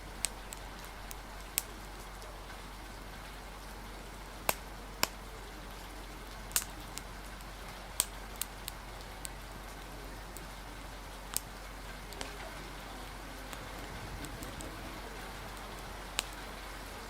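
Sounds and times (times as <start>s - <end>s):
rain hiss: 0.0s - 17.0s
wood fire crackling: 0.0s - 17.0s.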